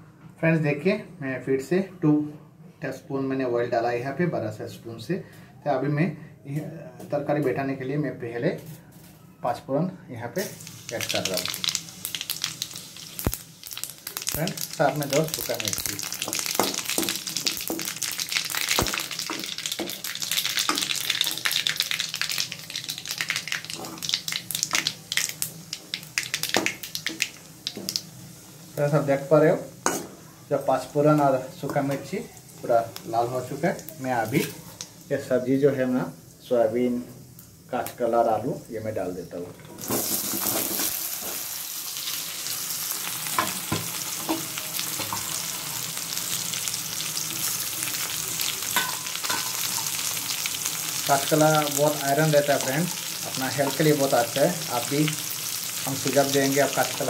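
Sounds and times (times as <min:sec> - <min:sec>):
seeds sizzling and crackling in oil: 0:10.4 - 0:57.0.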